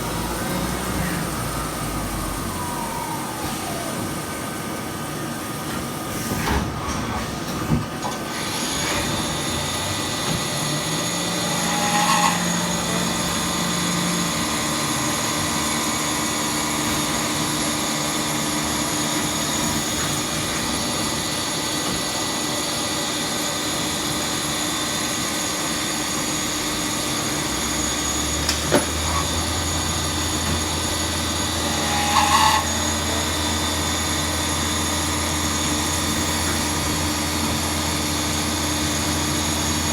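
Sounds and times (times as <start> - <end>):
lathe machine whine: 0.0 - 6.4, 8.0 - 39.9.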